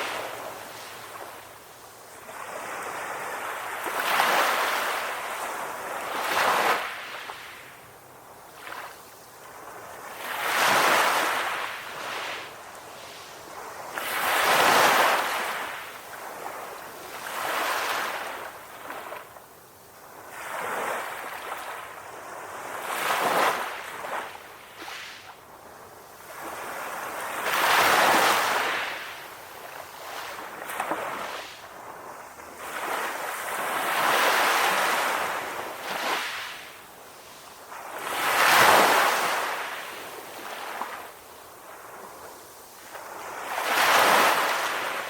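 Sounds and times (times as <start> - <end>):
ocean waves washing onto shore: 0.0 - 45.0.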